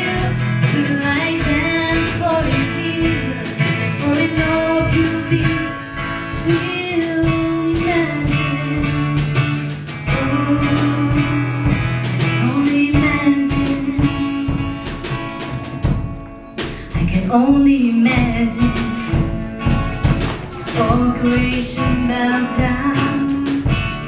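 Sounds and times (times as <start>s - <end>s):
strummed acoustic guitar: 0.0s - 24.0s.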